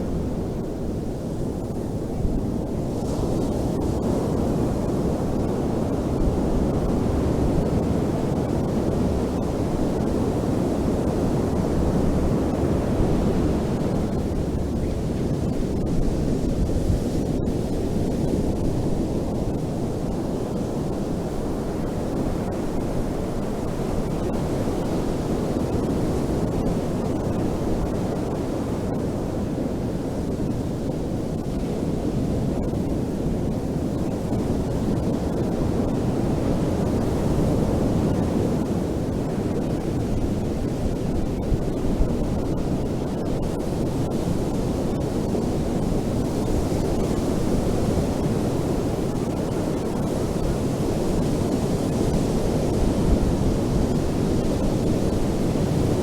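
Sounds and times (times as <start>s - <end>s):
ocean waves washing on beach: 0.0s - 56.0s.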